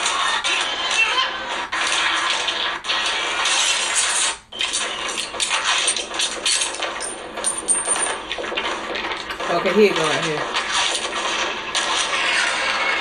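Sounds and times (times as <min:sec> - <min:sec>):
action film soundtrack on phone speaker: 0:00.0 - 0:13.0.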